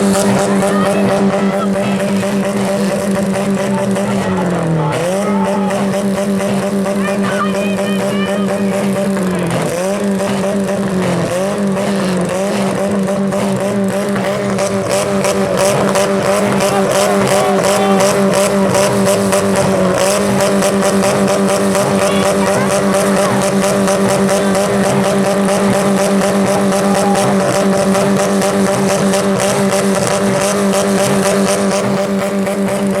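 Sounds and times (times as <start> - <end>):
car engines running hard: 0.0 - 33.0.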